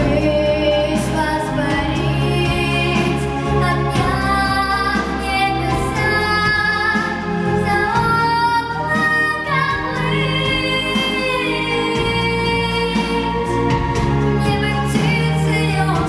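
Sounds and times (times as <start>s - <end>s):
girl singing into microphone: 0.0s - 16.0s
instrumental accompaniment: 0.0s - 16.0s.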